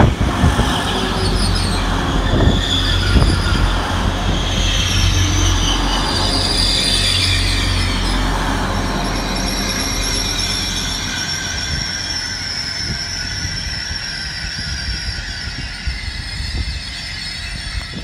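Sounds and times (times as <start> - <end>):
diesel train rumbling past: 0.0 - 18.0
high-pitched squeal: 0.0 - 18.0.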